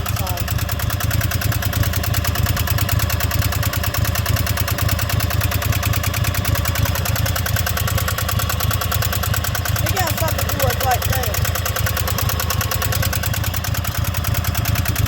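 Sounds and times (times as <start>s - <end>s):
engine knock: 0.0s - 15.0s
riding lawnmower engine running: 0.0s - 15.0s.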